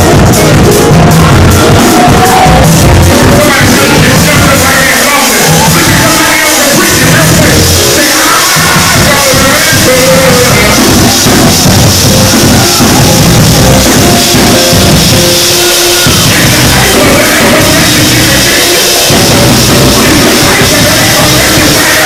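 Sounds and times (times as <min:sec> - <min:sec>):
live gospel band: 0:00.0 - 0:22.0.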